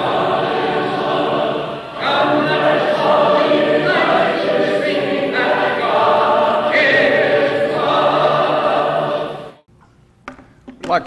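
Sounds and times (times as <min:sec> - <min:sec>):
choir singing a cappella: 0:00.0 - 0:09.7.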